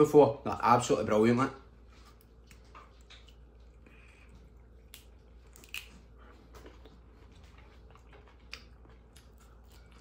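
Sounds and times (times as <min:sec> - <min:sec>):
person chewing crisp green beans: 0:01.9 - 0:10.0.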